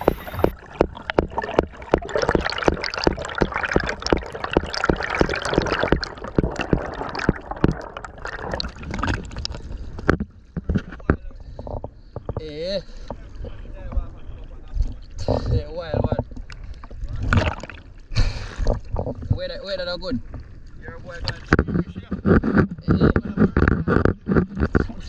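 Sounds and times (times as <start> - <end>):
underwater water noise: 0.0 - 25.0.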